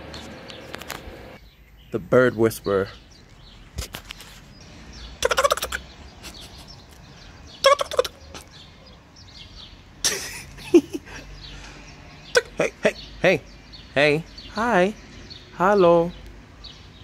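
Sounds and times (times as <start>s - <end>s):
birds chattering calls: 0.0s - 17.0s
outdoor background noise: 0.0s - 17.0s.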